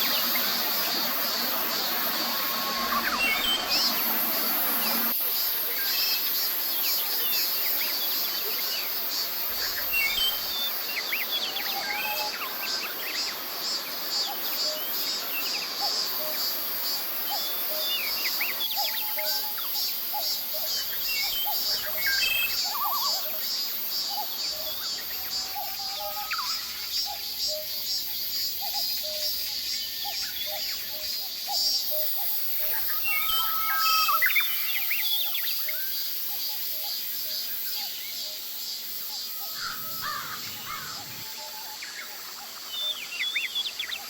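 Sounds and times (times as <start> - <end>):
cicadas droning: 0.0 - 44.0.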